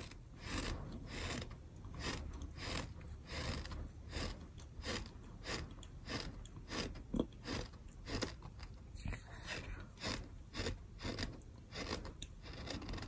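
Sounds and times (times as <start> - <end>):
person chewing gritty sand: 0.0 - 13.0.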